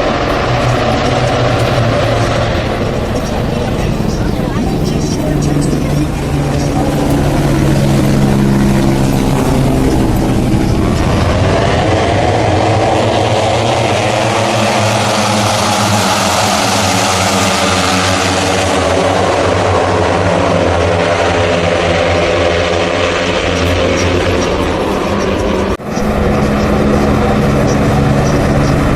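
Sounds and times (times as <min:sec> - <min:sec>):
racing motorcycle engines: 0:00.0 - 0:28.9.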